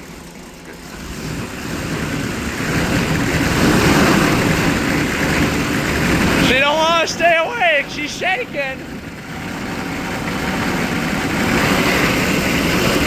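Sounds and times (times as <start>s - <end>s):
diesel engine running rough: 0.0s - 13.0s.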